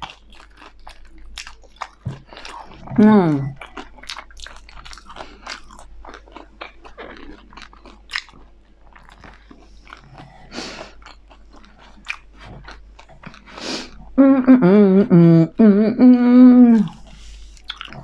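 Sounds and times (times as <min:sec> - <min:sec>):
chewing and crunching food: 0:00.0 - 0:14.2, 0:16.8 - 0:18.0.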